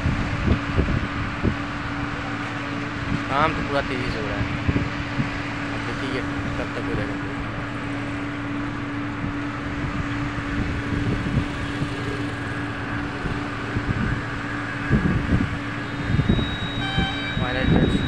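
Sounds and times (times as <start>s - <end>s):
construction machinery engine hum: 0.0s - 18.0s
wind rumble on microphone: 0.0s - 18.0s.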